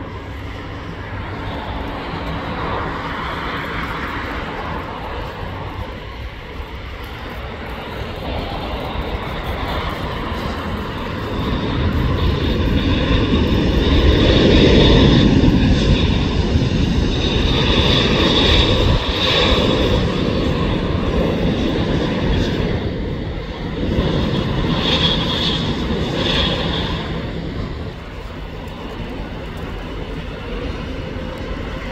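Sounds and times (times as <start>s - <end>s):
high steady engine whine: 0.0s - 31.9s
jet engines rumbling: 0.0s - 31.9s.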